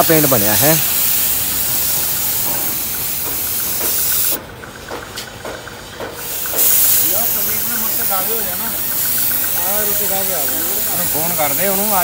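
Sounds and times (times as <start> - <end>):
paint spray gun hissing: 0.0 - 4.4, 6.2 - 12.0.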